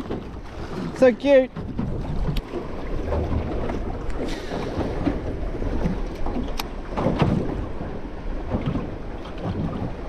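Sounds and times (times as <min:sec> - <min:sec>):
water lapping against boat: 0:00.0 - 0:10.0.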